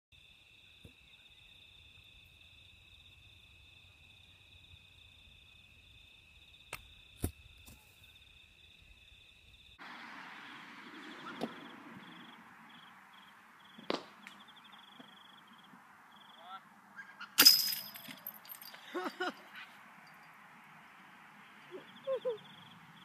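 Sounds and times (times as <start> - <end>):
insects chirring: 0.2 - 23.0.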